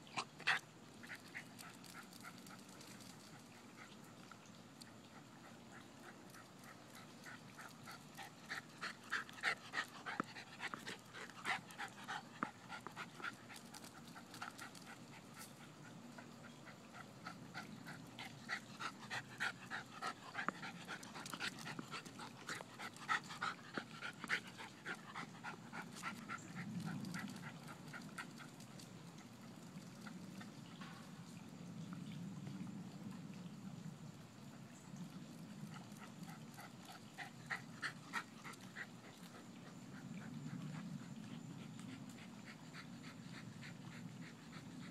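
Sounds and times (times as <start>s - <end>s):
dog panting: 0.1s - 30.6s, 35.7s - 44.9s.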